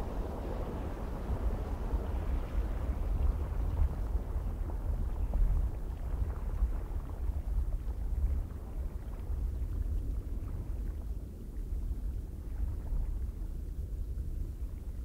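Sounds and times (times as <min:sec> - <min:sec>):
low rumbling wind: 0:00.0 - 0:15.0.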